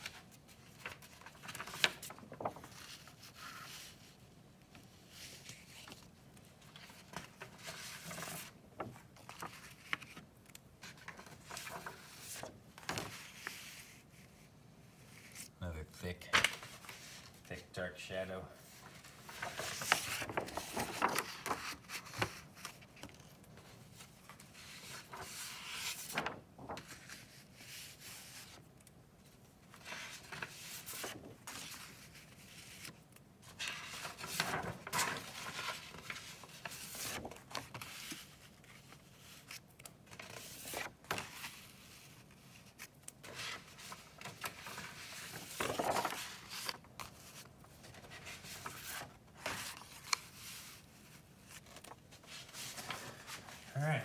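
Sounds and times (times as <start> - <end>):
paper rustling and sliding: 0.0 - 15.5, 16.3 - 17.5, 18.6 - 53.8.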